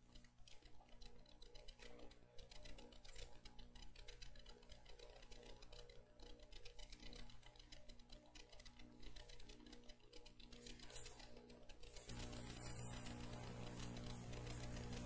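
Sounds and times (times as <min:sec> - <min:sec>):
soft rapid ticking: 0:00.0 - 0:15.0
steady low hum: 0:00.0 - 0:15.0.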